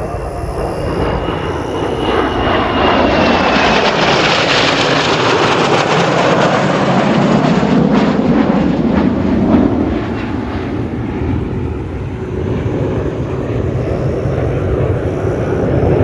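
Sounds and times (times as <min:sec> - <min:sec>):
jet aircraft roaring overhead: 0:00.0 - 0:16.0.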